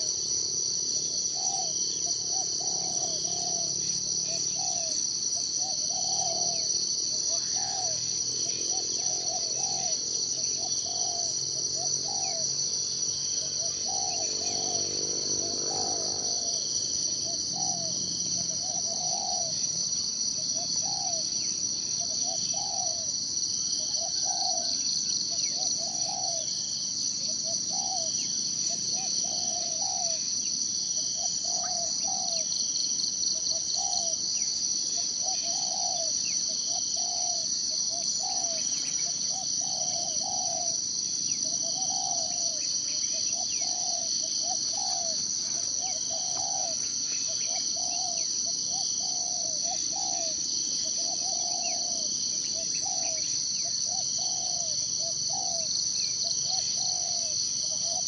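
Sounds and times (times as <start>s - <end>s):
insects trilling: 0.0s - 58.0s
bird low call: 1.1s - 5.0s, 5.6s - 12.5s, 13.4s - 14.8s, 17.2s - 19.6s, 20.4s - 23.1s, 23.8s - 26.5s, 27.2s - 30.3s, 31.2s - 32.5s, 33.4s - 58.0s.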